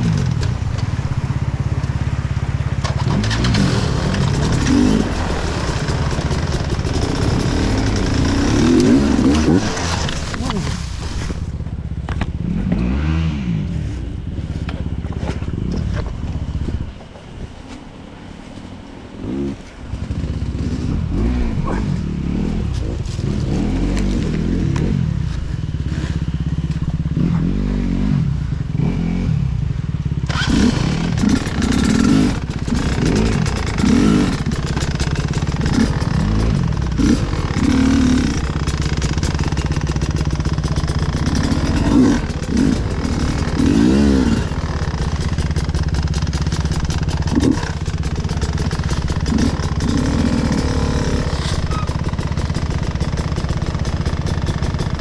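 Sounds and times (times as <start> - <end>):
motorcycle clattering: 0.0 - 13.0, 13.8 - 27.3, 30.3 - 55.0
motorcycle engine revving: 0.0 - 55.0.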